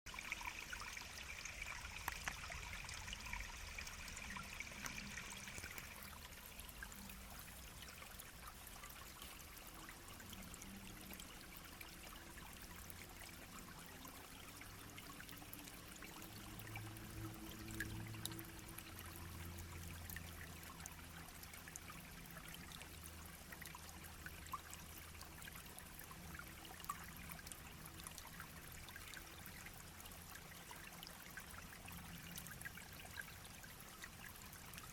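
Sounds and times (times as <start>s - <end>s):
brook babbling: 0.1s - 34.9s.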